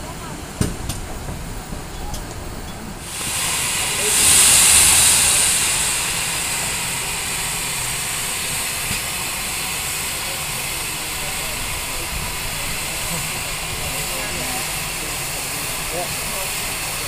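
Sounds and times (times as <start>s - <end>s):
steam hissing from locomotive: 0.4s - 17.0s.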